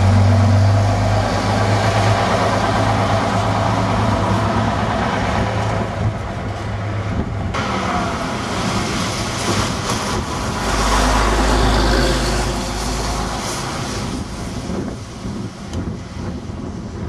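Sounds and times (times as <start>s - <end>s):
diesel bus engine passing: 0.0s - 15.3s
road noise: 0.0s - 17.0s.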